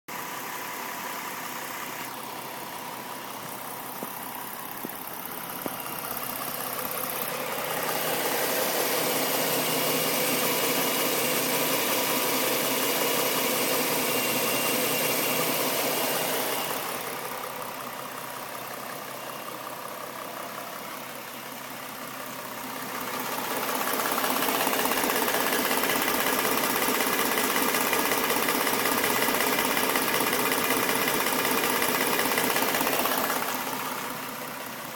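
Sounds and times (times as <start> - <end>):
car engine idling: 0.1 - 34.9
engine ticking: 0.1 - 34.9.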